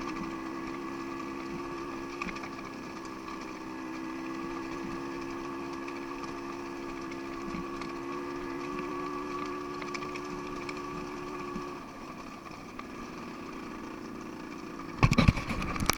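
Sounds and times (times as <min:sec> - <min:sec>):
dirt bike engine idling: 0:00.0 - 0:15.9.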